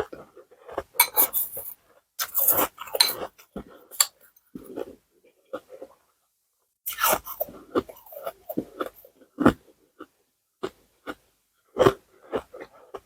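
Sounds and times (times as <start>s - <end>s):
ice crunching being chewed: 0.6s - 6.0s, 6.9s - 13.0s.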